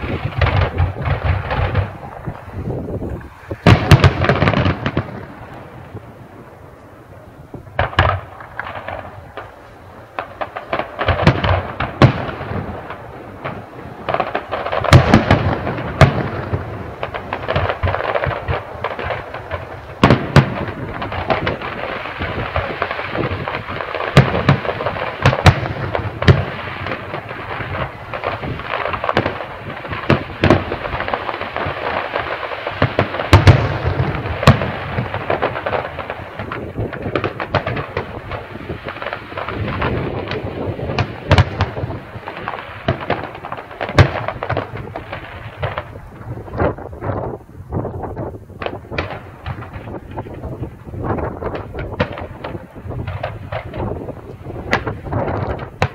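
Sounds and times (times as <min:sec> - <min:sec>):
fireworks banging and crackling: 0:00.0 - 0:55.9.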